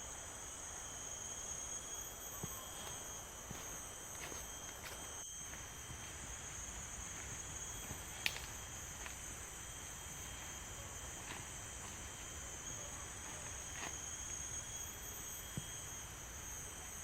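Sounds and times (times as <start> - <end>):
forest insects chorus: 0.0 - 17.0
thin constant tone: 0.0 - 17.0.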